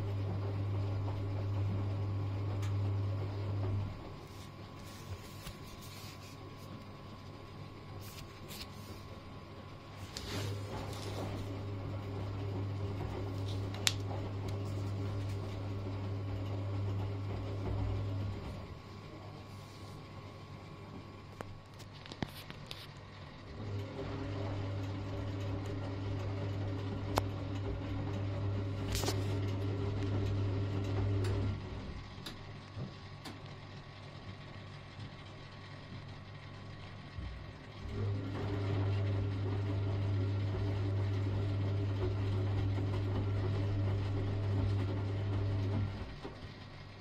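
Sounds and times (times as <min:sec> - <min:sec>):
washing machine motor humming: 0:00.0 - 0:47.0.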